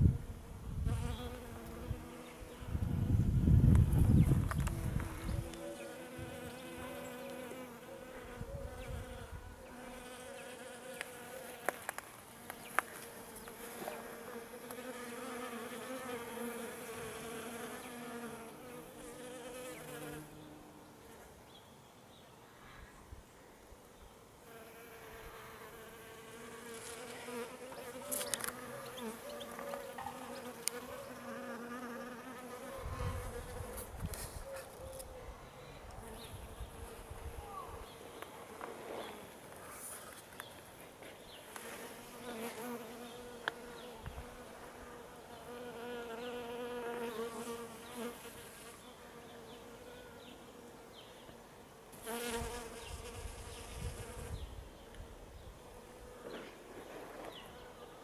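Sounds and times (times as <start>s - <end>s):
insects buzzing: 0.0s - 21.6s, 24.4s - 58.0s.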